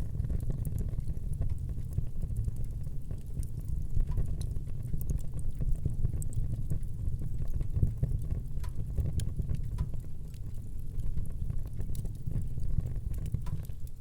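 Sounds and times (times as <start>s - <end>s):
low rumble of flames: 0.0s - 14.0s
wood crackling and popping: 0.0s - 14.0s.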